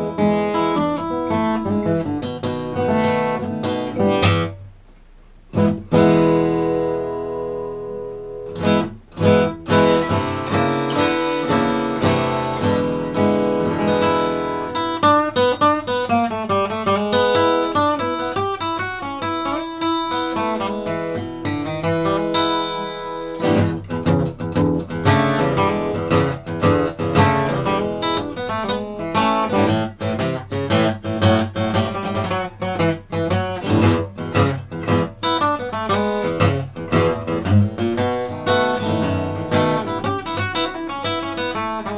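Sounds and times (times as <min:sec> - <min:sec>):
acoustic guitar playing: 0:00.0 - 0:41.9.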